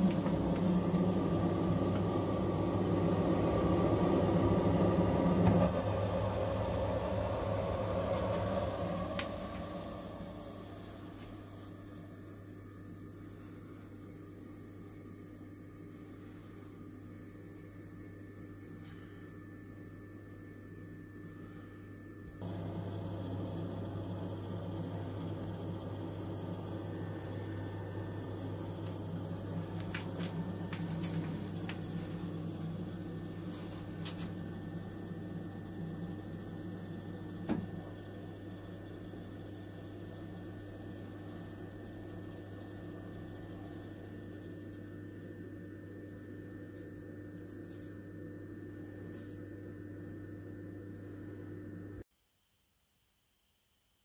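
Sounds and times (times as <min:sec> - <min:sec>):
boiler humming: 0:00.0 - 0:52.0.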